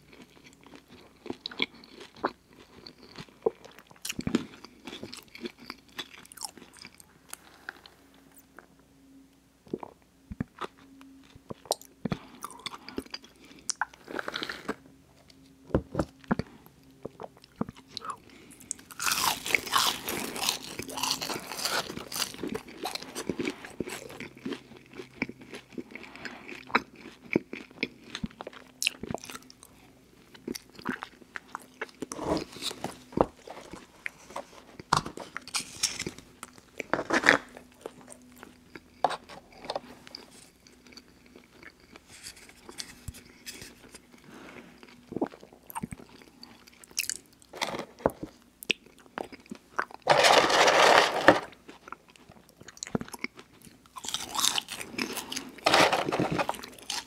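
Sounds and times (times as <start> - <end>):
chewing french fries: 0.0 - 8.7, 9.6 - 57.0.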